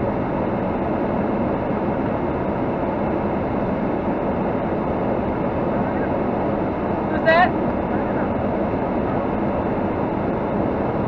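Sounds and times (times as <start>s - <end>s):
rumbling outdoor background noise: 0.0s - 11.0s.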